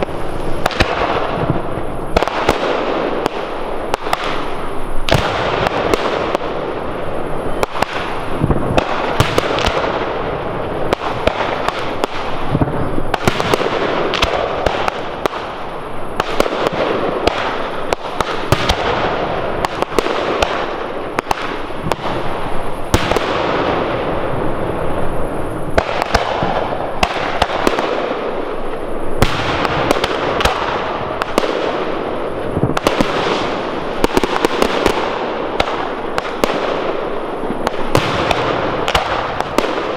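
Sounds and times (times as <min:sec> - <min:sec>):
firework bangs: 0:00.0 - 0:39.9
firework crackle: 0:00.0 - 0:39.9.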